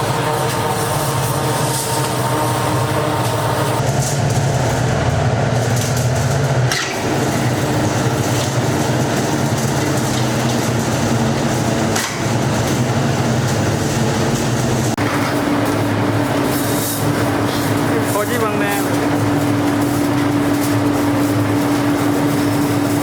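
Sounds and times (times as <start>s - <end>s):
workshop machinery humming and rattling: 0.0s - 23.0s.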